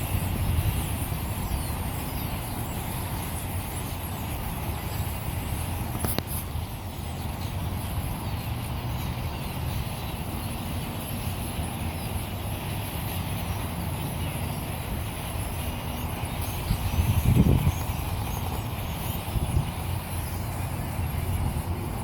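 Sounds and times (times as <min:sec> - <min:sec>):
birds chirping: 0:00.0 - 0:22.0
steady low rumble: 0:00.0 - 0:22.0.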